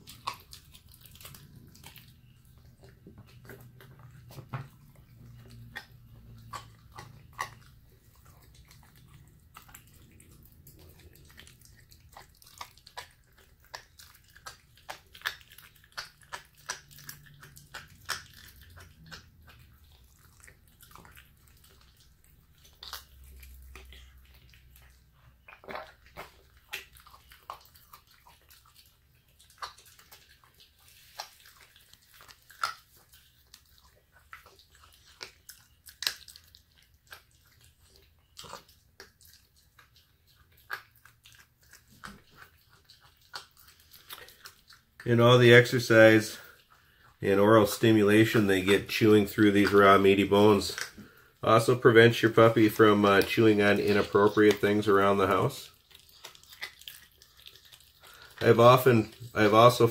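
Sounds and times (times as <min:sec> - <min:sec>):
puppy chewing bone: 0:00.0 - 0:59.9.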